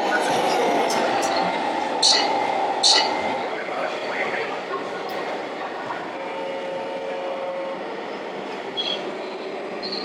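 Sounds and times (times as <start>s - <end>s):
steady background noise: 0.0s - 10.0s.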